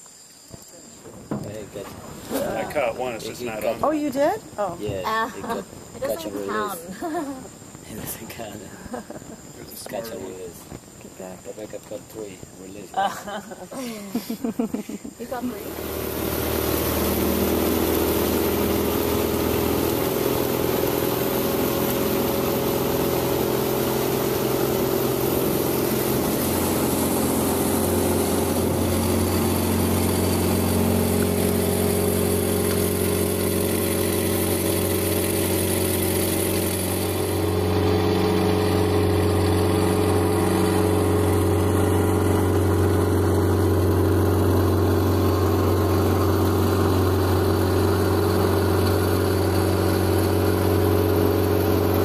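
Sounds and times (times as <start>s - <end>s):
outboard motor running: 1.0s - 12.4s, 15.0s - 52.0s.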